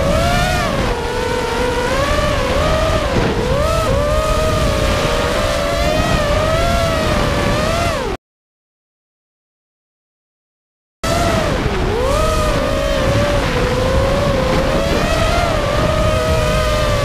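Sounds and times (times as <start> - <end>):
drone propellers whining: 0.0 - 8.2, 11.0 - 17.0
wind buffeting camera: 0.0 - 8.2, 11.1 - 17.0.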